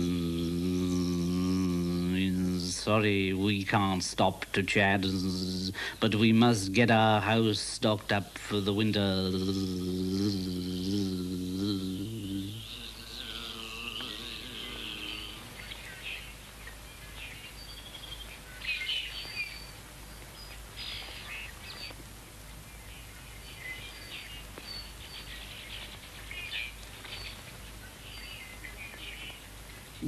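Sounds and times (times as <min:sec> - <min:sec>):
small birds chirping: 0:00.0 - 0:22.0, 0:22.8 - 0:30.0
faint steady hiss: 0:00.0 - 0:30.0.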